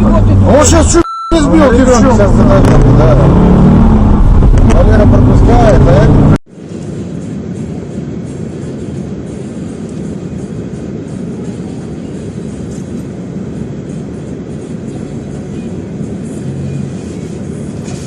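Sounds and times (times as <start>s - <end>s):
vehicle rumbling in motion: 0.0s - 18.0s.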